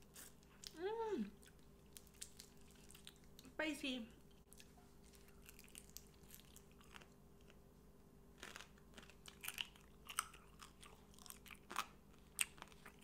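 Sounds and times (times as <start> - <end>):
chewing crispy chicken feet: 0.0 - 3.5, 4.3 - 7.6, 8.4 - 13.0.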